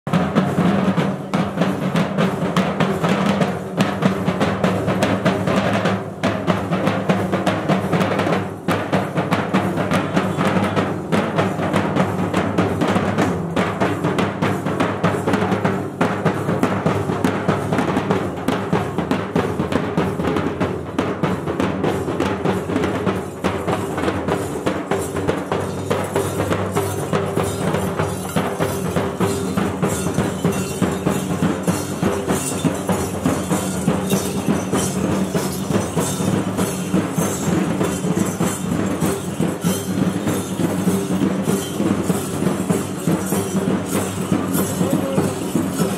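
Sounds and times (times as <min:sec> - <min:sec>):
barrel drums fast beat: 0:00.1 - 0:45.9.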